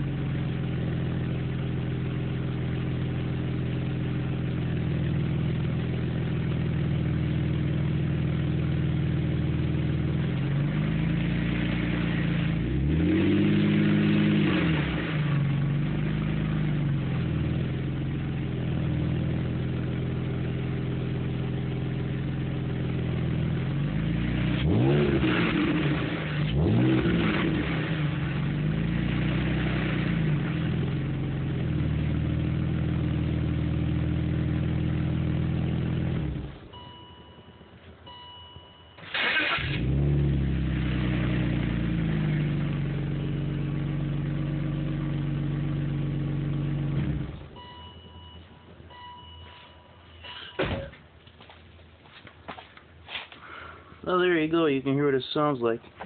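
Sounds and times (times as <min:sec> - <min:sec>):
car engine idling and revving: 0:00.0 - 0:51.2.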